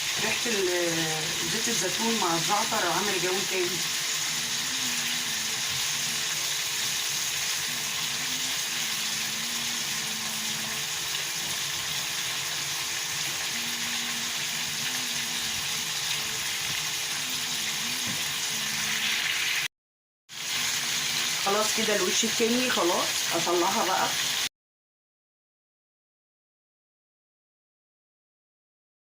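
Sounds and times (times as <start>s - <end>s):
chicken sizzling in oil: 0.0s - 19.7s, 20.3s - 24.5s.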